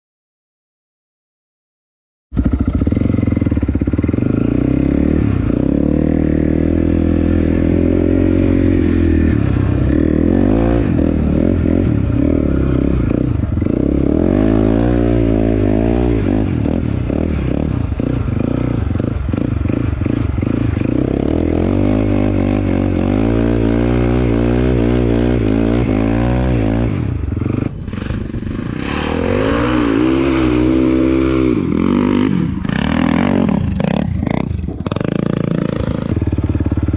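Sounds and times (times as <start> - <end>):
atv engine revving: 2.4 - 36.9.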